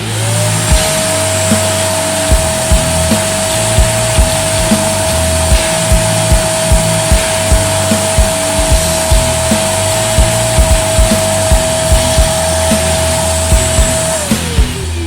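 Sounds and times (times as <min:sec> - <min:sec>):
background music with drum beat: 0:00.0 - 0:15.0
vacuum cleaner running: 0:00.0 - 0:15.0.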